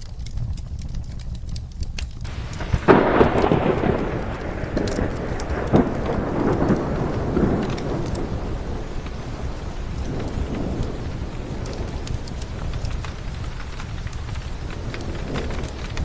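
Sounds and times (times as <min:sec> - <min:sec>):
sharp ticks: 0:00.0 - 0:09.2, 0:09.9 - 0:16.0
rolling thunder: 0:00.0 - 0:16.0
steady rain: 0:00.0 - 0:16.0.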